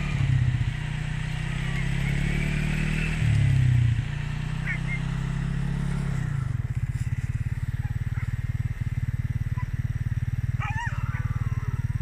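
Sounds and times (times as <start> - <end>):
engine running with low putter: 0.0 - 12.0.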